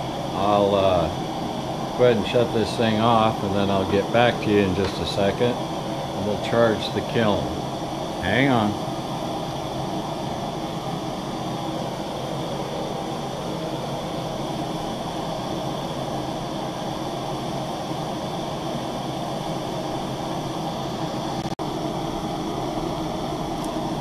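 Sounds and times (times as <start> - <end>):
propane torches rushing: 0.0 - 21.4.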